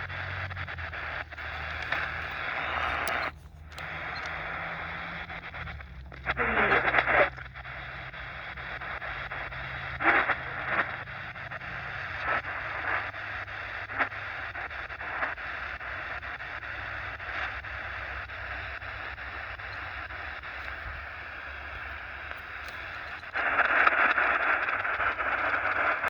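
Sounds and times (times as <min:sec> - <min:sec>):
radio signal blips: 0:00.0 - 0:26.0
shortwave radio static: 0:00.0 - 0:26.0.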